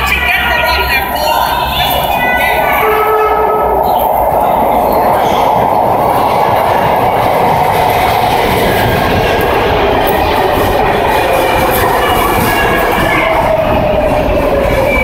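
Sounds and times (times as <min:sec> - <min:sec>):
train rail rumble: 0:00.0 - 0:15.0.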